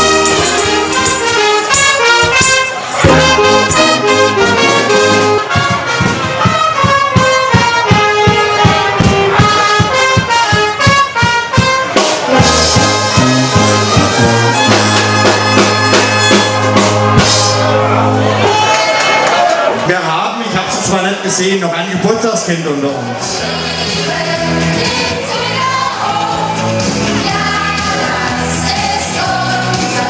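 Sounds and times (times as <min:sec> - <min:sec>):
brass band playing festive music: 0:00.0 - 0:18.8, 0:20.3 - 0:30.0.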